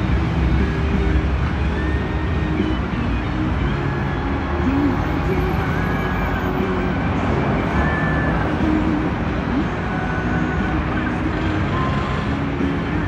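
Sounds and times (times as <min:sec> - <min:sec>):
loud bus engine rumble: 0:00.0 - 0:13.0.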